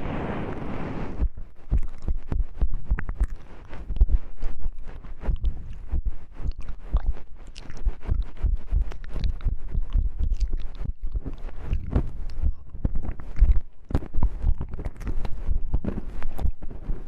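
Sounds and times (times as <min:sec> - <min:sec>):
soft low thumps: 0:00.0 - 0:17.0.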